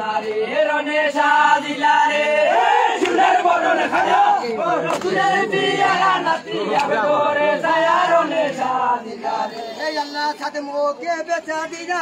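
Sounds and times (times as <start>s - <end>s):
men singing folk song in chorus: 0.0s - 9.8s.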